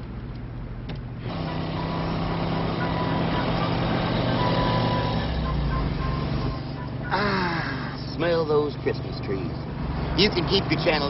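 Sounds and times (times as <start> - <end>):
highway traffic drone: 0.0 - 11.0.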